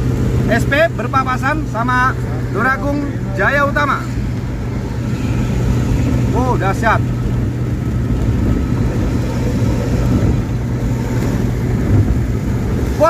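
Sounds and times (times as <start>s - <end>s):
bus engine exhaust growl: 0.0s - 13.0s
road noise: 0.0s - 13.0s.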